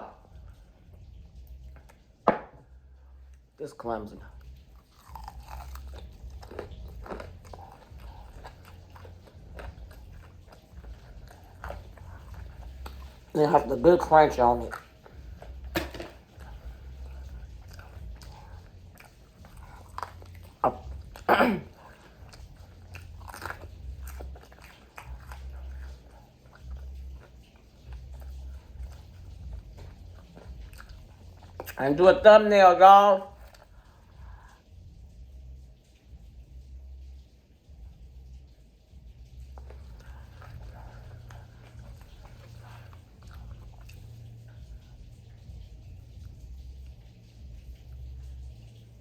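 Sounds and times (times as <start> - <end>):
chewing crispy fried food: 0.0 - 49.0
low steady hum: 0.0 - 49.0.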